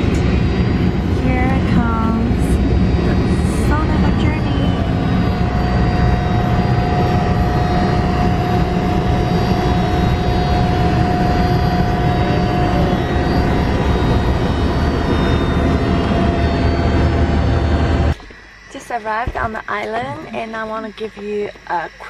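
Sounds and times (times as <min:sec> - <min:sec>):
small plane engine drone: 0:00.0 - 0:22.0.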